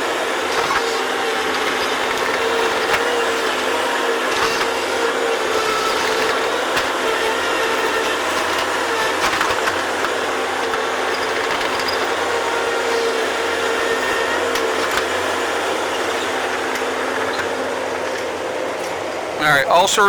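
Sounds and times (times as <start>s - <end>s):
digging machine engine running: 0.0s - 19.9s.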